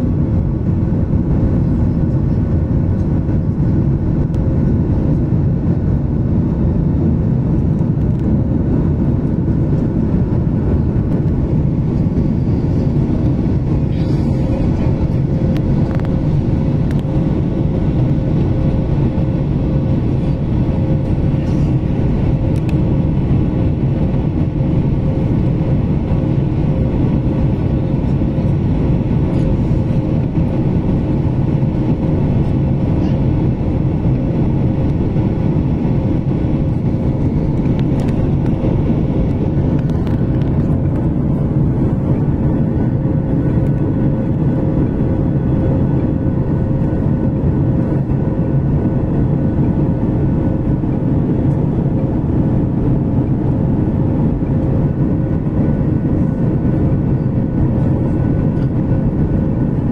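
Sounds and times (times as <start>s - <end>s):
jet engines droning: 0.0s - 59.9s
rushing airflow: 0.0s - 59.9s
steady cabin hum: 0.0s - 59.9s.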